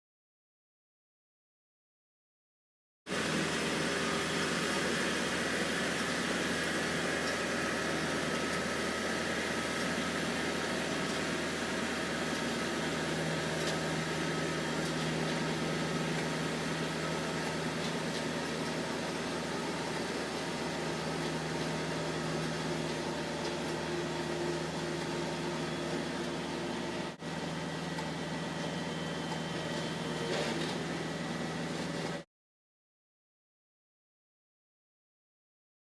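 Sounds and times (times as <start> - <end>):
tractor engine running: 3.1 - 32.2.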